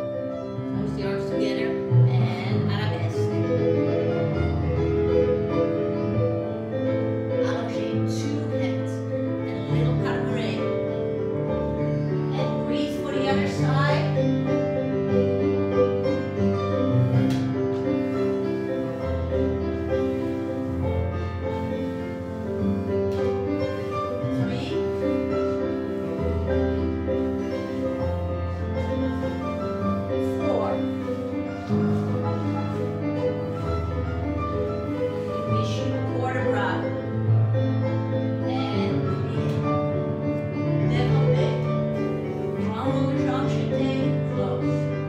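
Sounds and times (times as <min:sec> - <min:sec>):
slow lyrical piano melody: 0:00.0 - 0:45.0.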